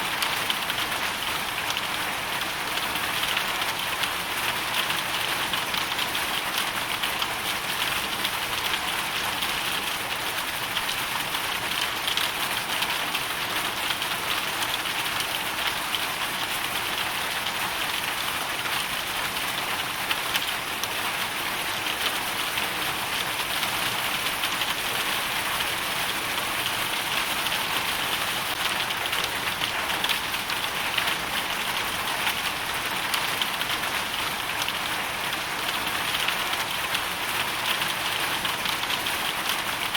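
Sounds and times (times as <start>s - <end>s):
hail and rain pattering: 0.0s - 39.9s.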